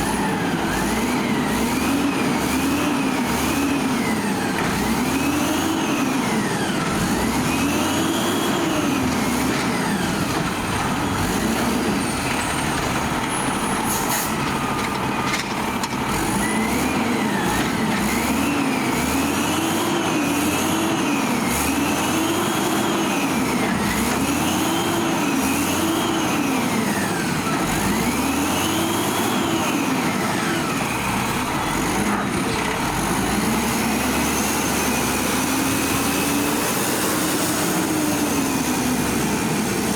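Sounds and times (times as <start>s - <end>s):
garbage truck engine revving: 0.0s - 39.9s.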